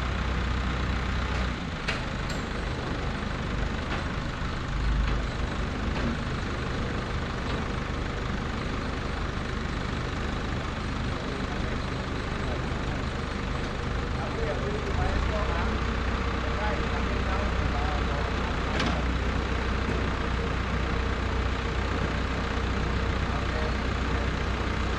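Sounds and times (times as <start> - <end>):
truck engine idling: 0.0 - 24.9.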